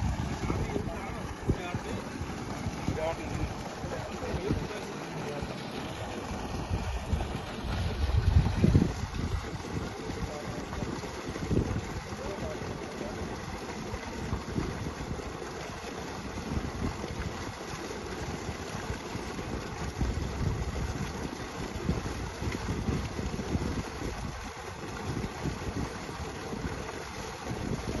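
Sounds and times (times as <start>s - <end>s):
wind buffeting microphone: 0.0s - 4.8s, 6.3s - 15.4s, 18.2s - 28.0s
water gushing from a pipe: 0.0s - 28.0s.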